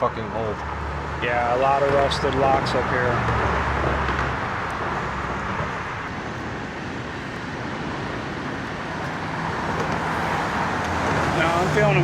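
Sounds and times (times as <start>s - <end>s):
tyres hissing from passing vehicles: 0.6s - 12.0s.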